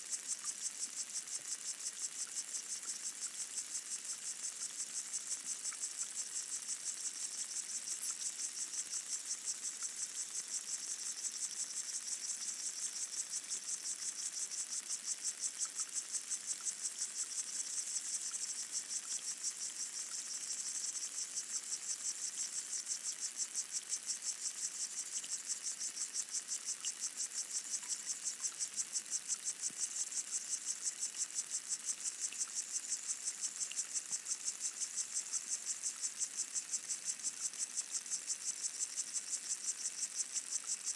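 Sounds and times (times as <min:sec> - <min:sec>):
faint ticks: 0:00.0 - 0:40.9
high-pitched pulsing insect buzz: 0:01.2 - 0:40.9.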